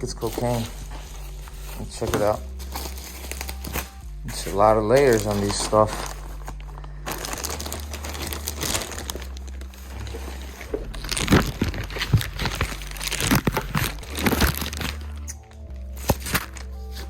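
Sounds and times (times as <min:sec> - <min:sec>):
packing wrap crinkling and tearing: 0:00.0 - 0:17.0.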